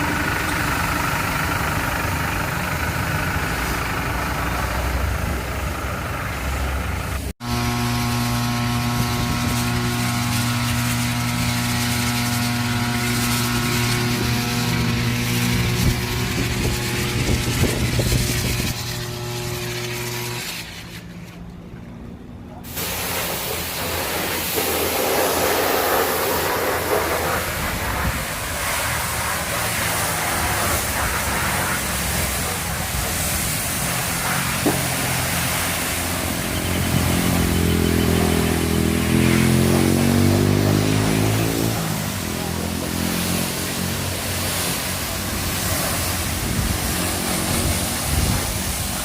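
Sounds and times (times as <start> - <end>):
water spraying: 0.0 - 21.4, 22.7 - 49.0
diesel engine running: 0.0 - 49.0.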